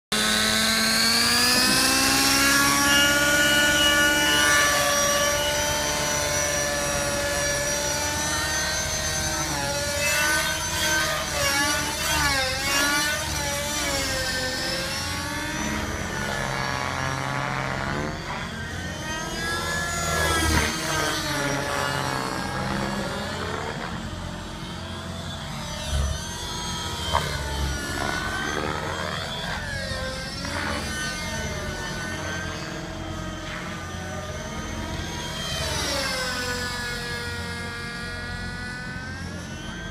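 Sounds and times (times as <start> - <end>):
model helicopter rotor whine: 0.1 - 39.9.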